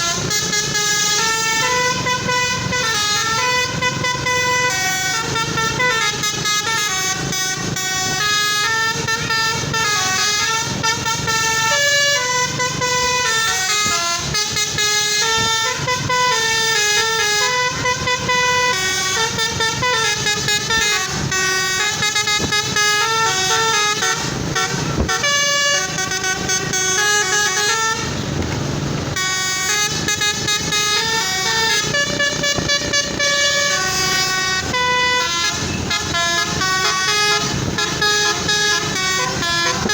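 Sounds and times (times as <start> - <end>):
bus horns playing melody: 0.0 - 39.9.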